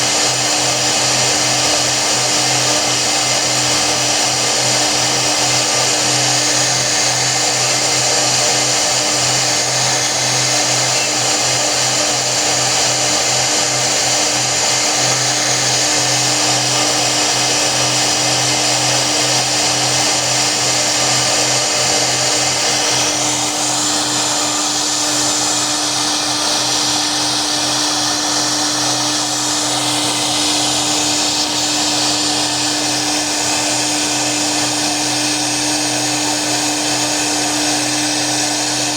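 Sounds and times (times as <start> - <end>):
router cutting noise: 0.0 - 38.9
router spindle motor hum: 0.0 - 38.9.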